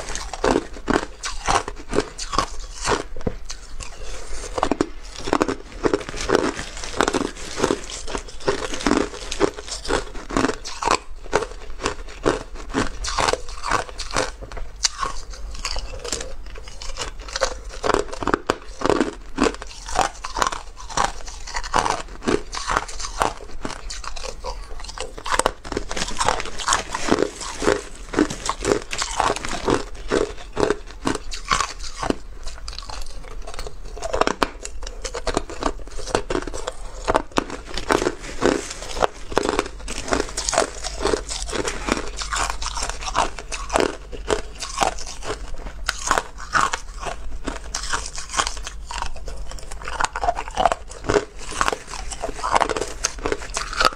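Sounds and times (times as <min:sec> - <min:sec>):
ice crunching being chewed: 0:00.0 - 0:53.9.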